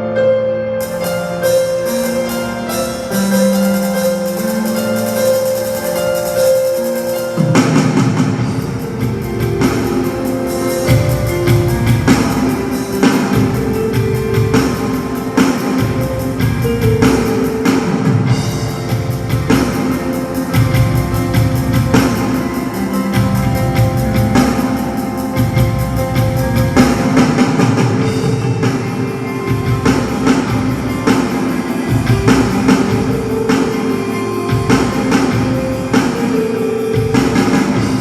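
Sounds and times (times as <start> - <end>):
guitar: 0.0 - 38.0
keyboard chords: 0.0 - 38.0
drum kit beat: 0.8 - 38.0.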